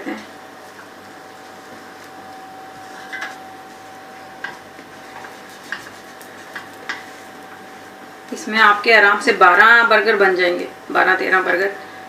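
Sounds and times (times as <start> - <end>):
faint steady whine: 0.0 - 12.0
steady hum: 0.0 - 12.0.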